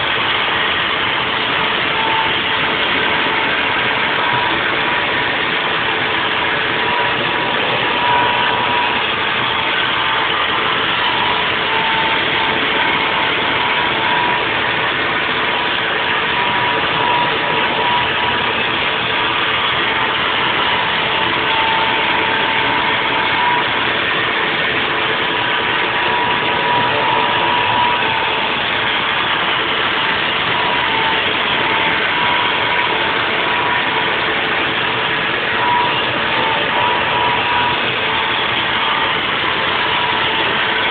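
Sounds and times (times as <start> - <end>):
high machine whine: 0.0 - 40.9
milling machine running: 0.0 - 40.9.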